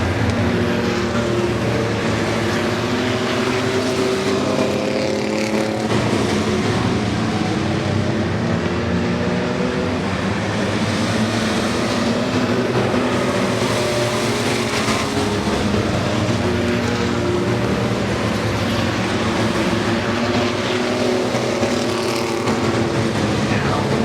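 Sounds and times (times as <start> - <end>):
racing truck engines passing: 0.0 - 24.0.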